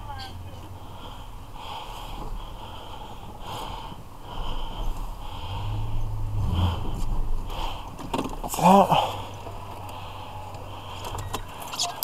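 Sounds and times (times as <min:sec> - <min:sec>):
vehicle engine hum: 0:00.0 - 0:12.0
heavy breathing: 0:00.7 - 0:11.7.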